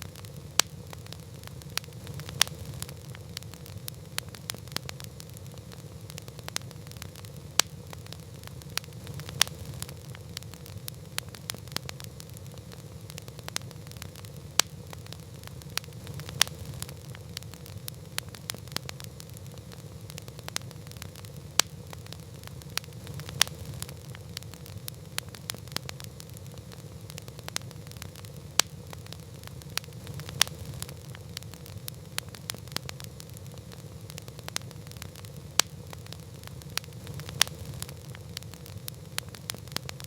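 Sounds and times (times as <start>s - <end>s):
campfire crackling pops: 0.0s - 40.0s
low rumble of burning: 0.0s - 40.0s.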